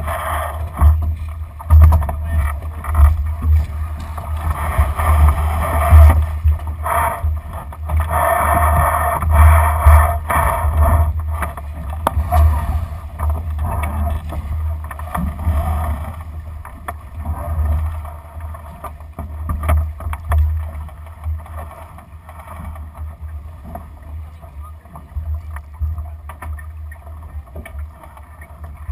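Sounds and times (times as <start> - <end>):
water rushing along hull: 0.0 - 28.9
wind rumble on microphone: 0.0 - 28.9.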